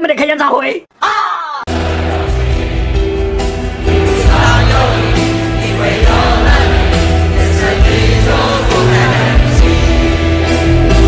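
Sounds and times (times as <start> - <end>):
crowd singing along: 1.7 - 11.0
live rock band: 1.7 - 11.0.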